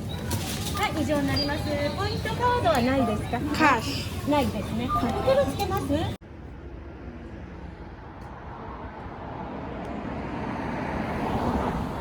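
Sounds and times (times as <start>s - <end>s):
road vehicle passing: 0.0s - 12.0s.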